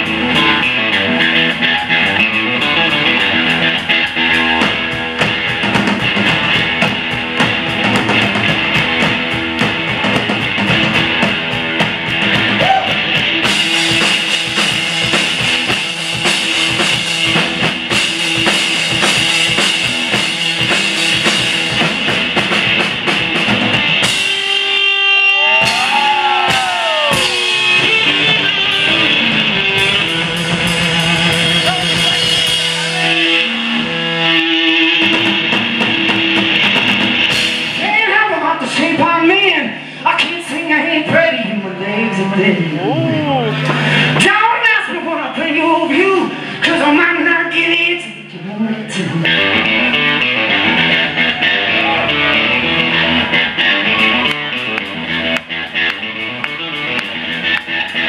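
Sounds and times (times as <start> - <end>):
pounding drum kit: 0.0 - 39.6, 49.2 - 58.0
electric guitar: 0.0 - 58.0.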